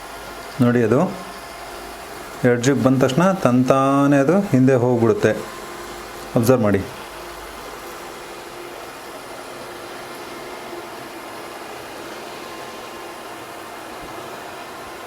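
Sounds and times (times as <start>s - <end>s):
robot vacuum fan hissing: 0.0s - 15.0s.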